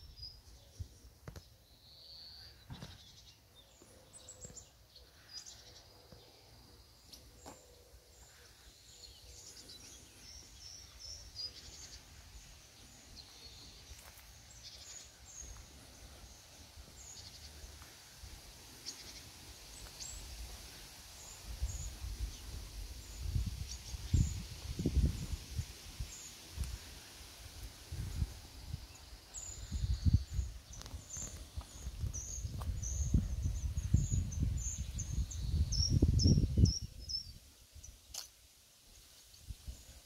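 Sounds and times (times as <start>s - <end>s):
small birds chirping: 0.0s - 38.4s.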